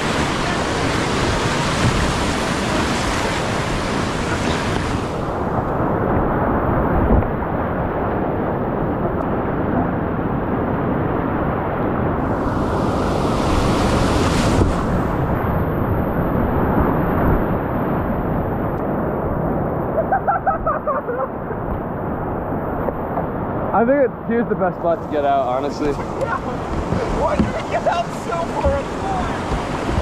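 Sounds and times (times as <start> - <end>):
whitewater rushing: 0.0 - 8.8, 11.4 - 20.1, 22.0 - 30.0.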